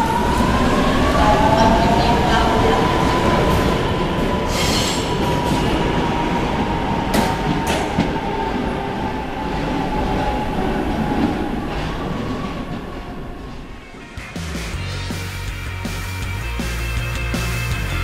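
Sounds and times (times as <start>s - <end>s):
metro train rumble and whine: 0.0s - 17.2s.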